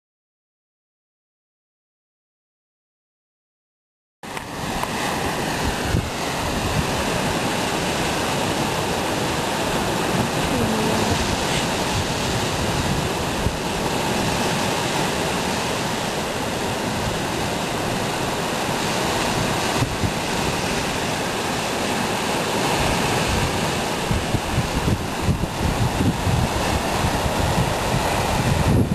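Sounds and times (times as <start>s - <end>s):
surf breaking on rocks: 4.2s - 28.9s
wind buffeting microphone: 4.5s - 28.9s.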